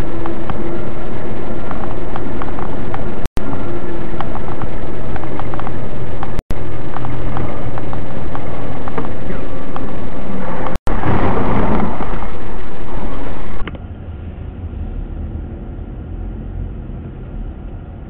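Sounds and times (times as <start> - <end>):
distorted engine and road noise: 0.0 - 18.0.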